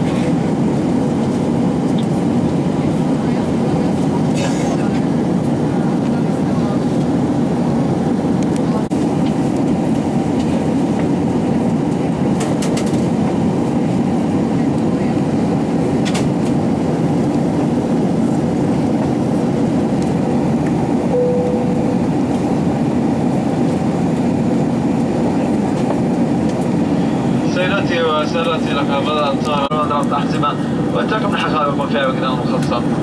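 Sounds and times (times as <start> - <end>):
airplane cabin engine roar: 0.0 - 33.0.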